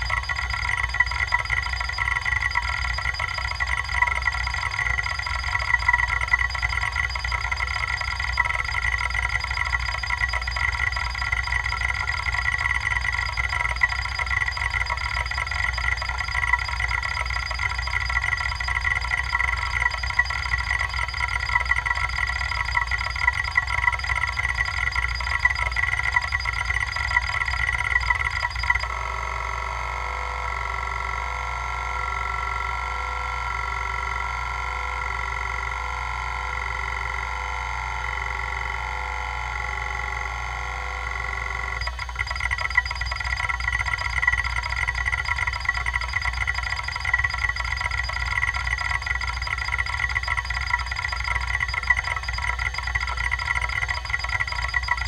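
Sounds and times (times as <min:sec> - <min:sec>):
hard drive seeking chatter: 0:00.0 - 0:55.0.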